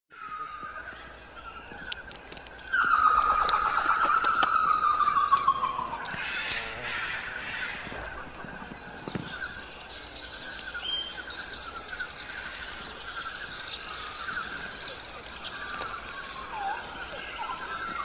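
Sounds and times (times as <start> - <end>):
chirping and trilling animals: 0.1 - 18.0.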